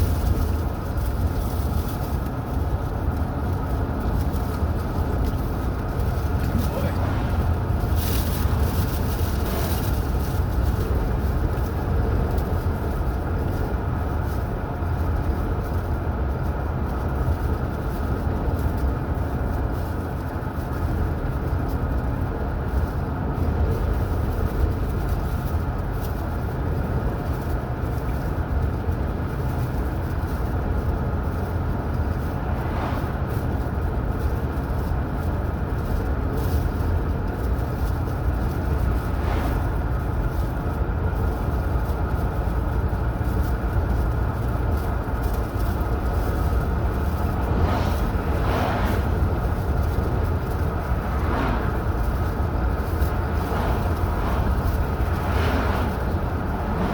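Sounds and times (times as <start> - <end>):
car road and engine noise: 0.0 - 56.9.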